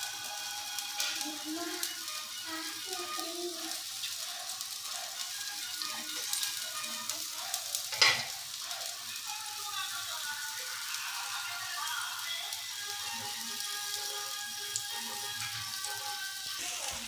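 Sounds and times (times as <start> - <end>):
patties sizzling in a pan: 0.0 - 17.0.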